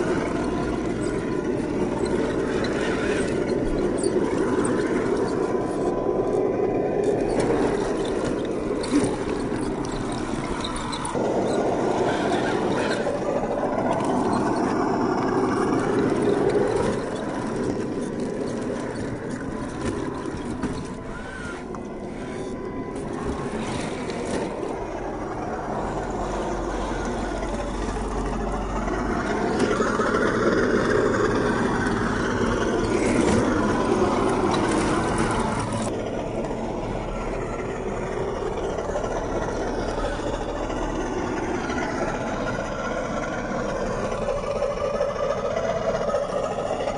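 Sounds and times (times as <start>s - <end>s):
electric motor and gear whine: 0.0s - 46.9s.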